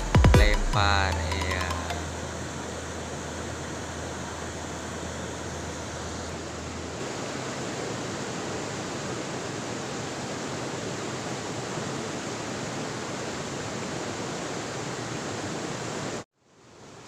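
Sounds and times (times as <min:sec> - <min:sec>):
flowing water rushing: 0:00.9 - 0:17.0.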